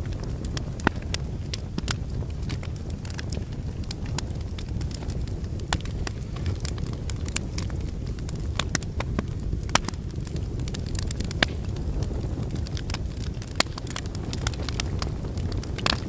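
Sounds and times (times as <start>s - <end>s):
logs crackling in fireplace: 0.0s - 16.0s
low rumble of flames: 0.0s - 16.0s.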